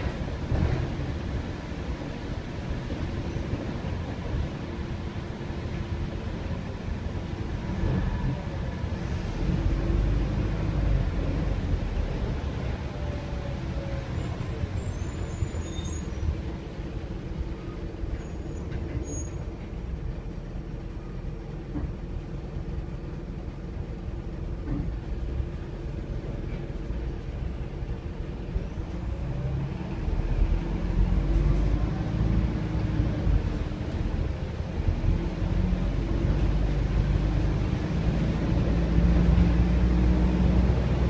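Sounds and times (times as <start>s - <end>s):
bus engine rumble: 0.0s - 41.0s.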